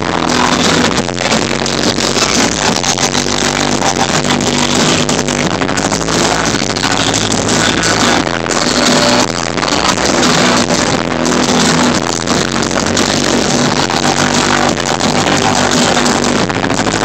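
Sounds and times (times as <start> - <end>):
loud electronic club music: 0.0 - 17.0.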